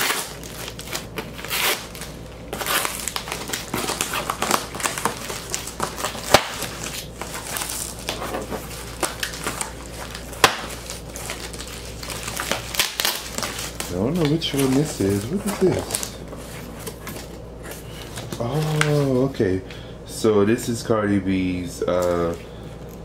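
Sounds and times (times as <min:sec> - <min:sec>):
paper and plastic crinkling: 0:00.0 - 0:19.5.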